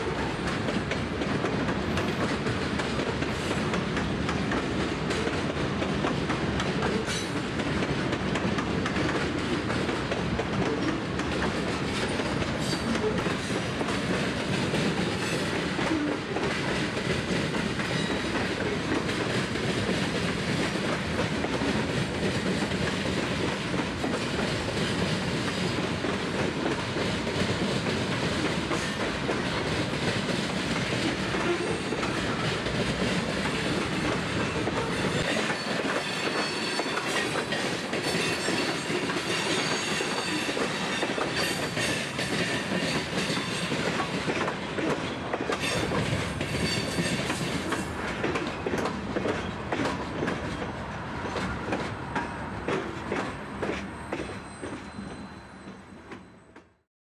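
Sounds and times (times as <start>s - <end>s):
train wheels clattering over crossing: 0.0s - 56.8s.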